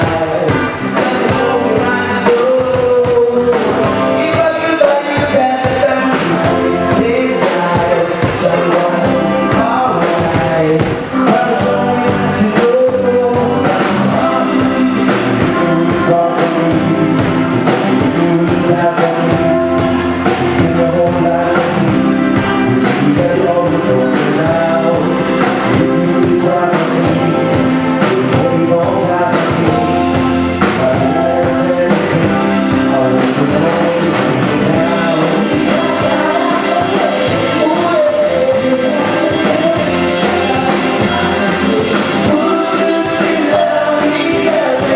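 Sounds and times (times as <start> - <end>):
lead singer singing: 0.0 - 44.9
live band playing: 0.0 - 44.9.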